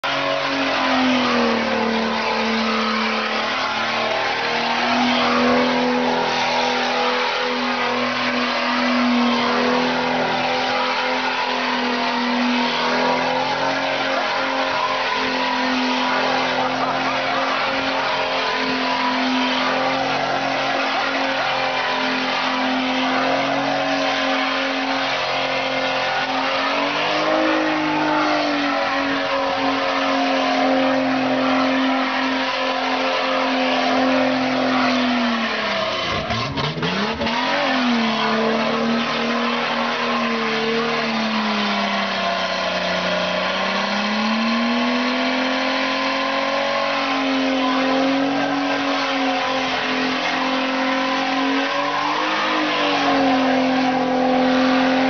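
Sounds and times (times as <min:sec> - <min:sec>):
car engine revving high: 0:00.0 - 0:55.0
tyres skidding: 0:00.0 - 0:55.0.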